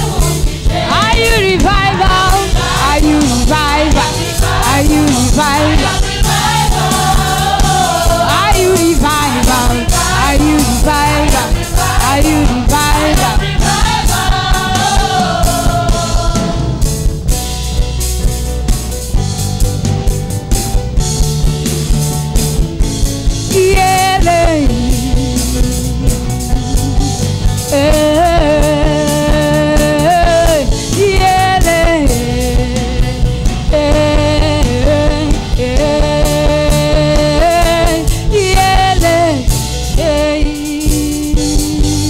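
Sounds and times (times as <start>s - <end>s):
drum kit beat: 0.0s - 42.0s
gospel band music: 0.0s - 42.0s
sliding lead melody: 0.0s - 42.0s.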